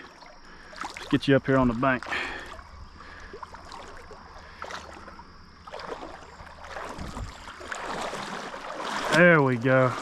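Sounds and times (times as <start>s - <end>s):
creek water splashing: 0.0s - 10.0s.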